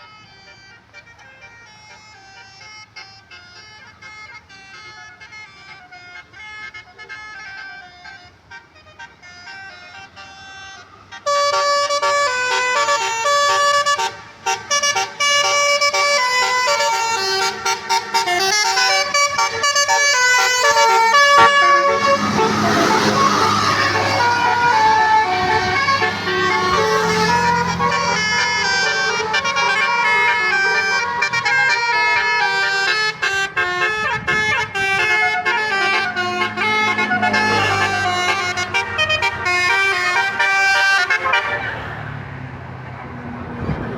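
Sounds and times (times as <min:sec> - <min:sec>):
bus horn playing a tune: 0:00.0 - 0:42.4
bus engine and road noise: 0:00.0 - 0:43.9.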